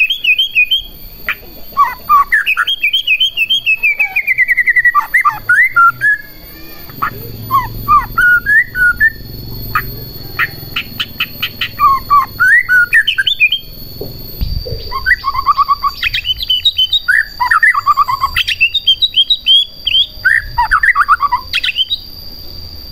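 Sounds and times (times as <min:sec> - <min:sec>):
bird singing whistled phrases: 0:00.0 - 0:22.9.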